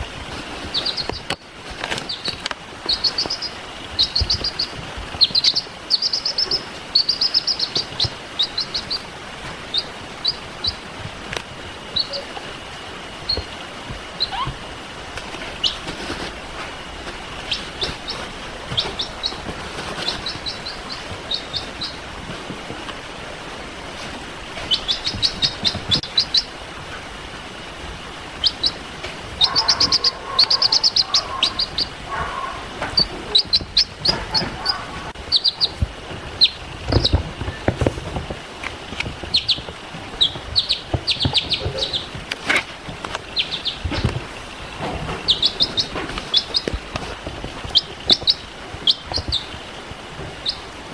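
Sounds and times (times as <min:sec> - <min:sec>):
baby chicks peeping: 0:00.0 - 0:50.9.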